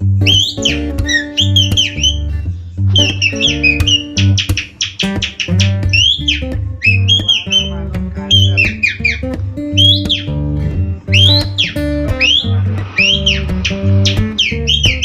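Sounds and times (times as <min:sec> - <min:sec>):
guitar and bass music: 0:00.0 - 0:15.0
person mimicking birdsong: 0:00.2 - 0:10.4, 0:11.1 - 0:15.0.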